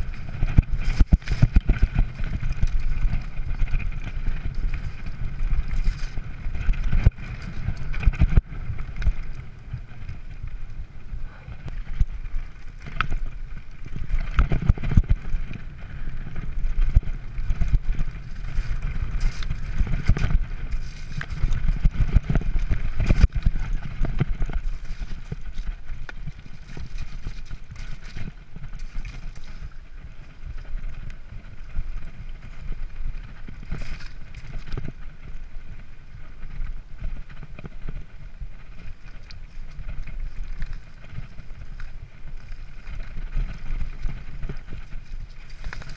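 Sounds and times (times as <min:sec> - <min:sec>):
bike knocking over rocks: 0:00.0 - 0:10.4, 0:11.7 - 0:35.2, 0:38.7 - 0:45.9
wind rumble on microphone: 0:00.0 - 0:45.9.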